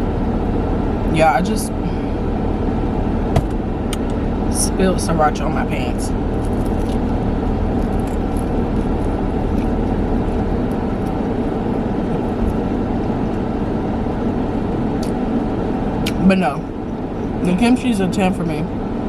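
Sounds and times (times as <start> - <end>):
car engine and ventilation rumble: 0.0 - 19.0.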